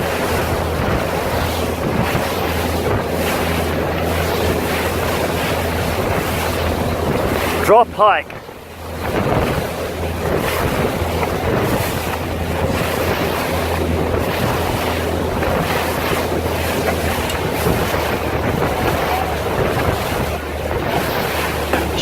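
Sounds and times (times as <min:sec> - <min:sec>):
rushing water and waves: 0:00.0 - 0:22.0
wind buffeting microphone: 0:00.0 - 0:22.0.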